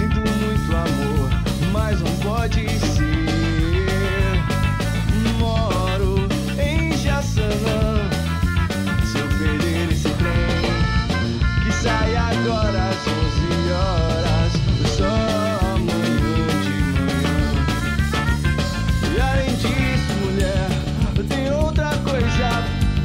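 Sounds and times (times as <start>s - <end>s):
ska band music: 0.0s - 23.0s.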